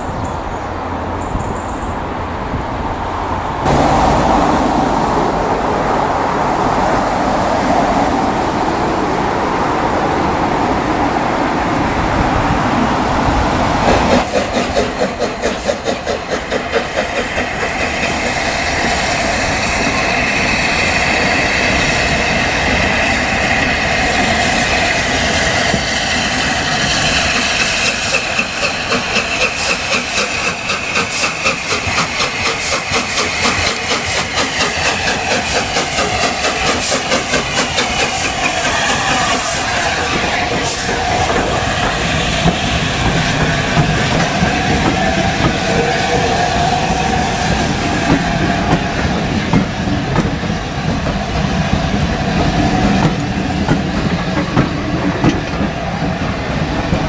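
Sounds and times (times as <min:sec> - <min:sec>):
steam locomotive running: 0:03.6 - 0:57.0.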